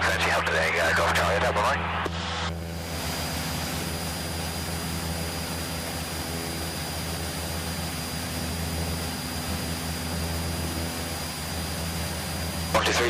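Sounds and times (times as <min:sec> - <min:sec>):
plane engine and propeller droning: 0:00.0 - 0:13.0.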